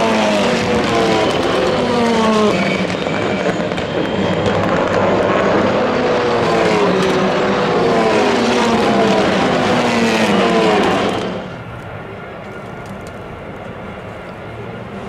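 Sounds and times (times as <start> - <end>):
distant engine drone: 0.0 - 15.0
race car engines passing: 0.0 - 15.0.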